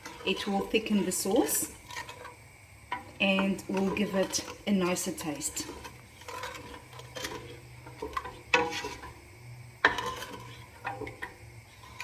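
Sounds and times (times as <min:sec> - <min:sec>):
utensil stirring sauce in pot: 0:00.0 - 0:12.0.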